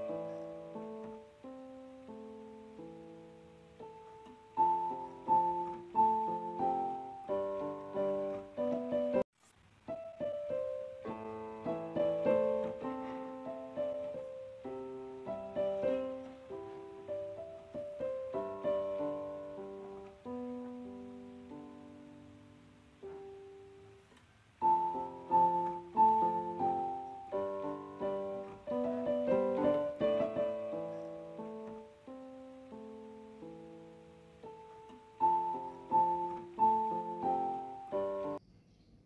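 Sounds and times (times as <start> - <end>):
slow solo piano music: 0.0 - 9.3, 9.9 - 38.4.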